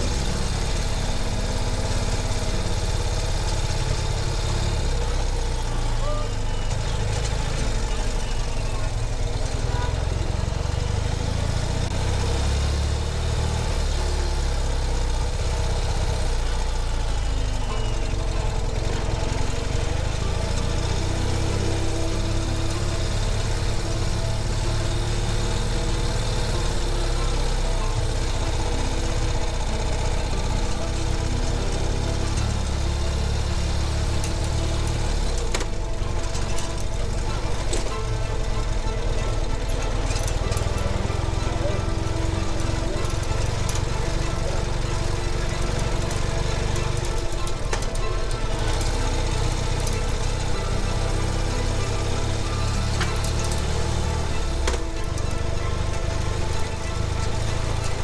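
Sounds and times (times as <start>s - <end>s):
motorcycle engine running at low revs: 0.0s - 58.0s.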